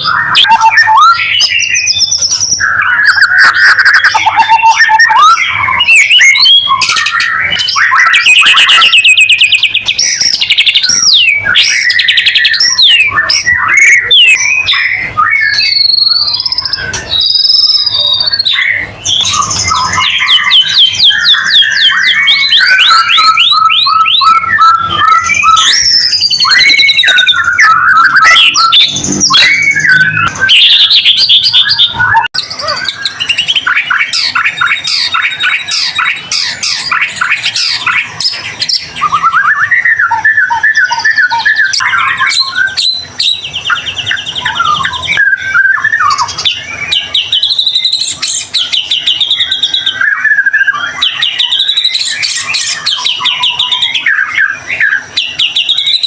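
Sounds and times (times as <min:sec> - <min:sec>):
songbird whistling and trilling: 0:00.0 - 0:56.0.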